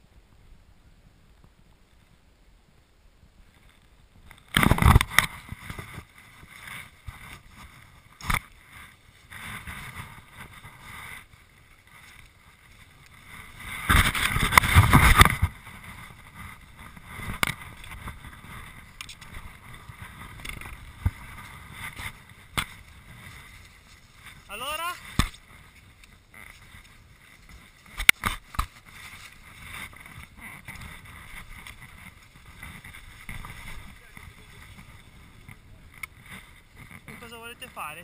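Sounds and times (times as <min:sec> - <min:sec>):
wind rushing on camera microphone: 0:00.0 - 0:38.0
skis moving over snow: 0:03.2 - 0:38.0.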